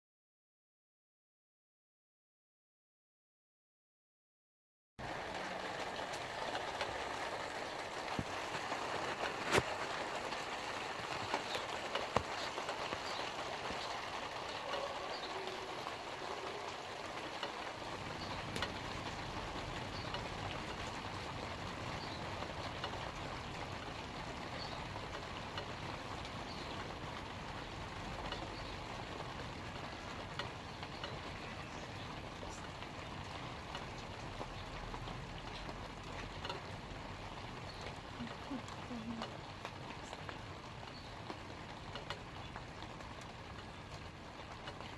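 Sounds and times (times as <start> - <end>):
light rain on leaves: 5.0 - 44.9.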